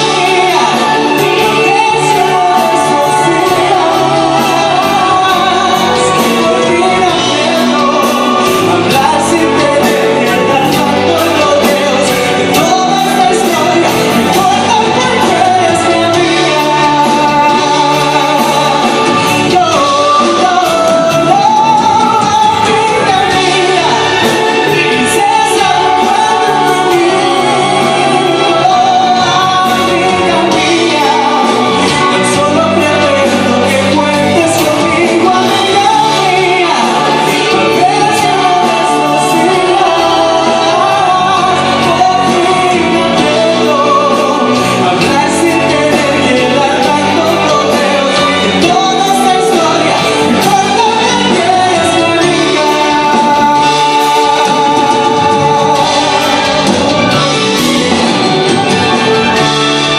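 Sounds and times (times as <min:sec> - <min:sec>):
man singing pop ballad: 0:00.0 - 0:59.9
symphony orchestra playing: 0:00.0 - 0:59.9.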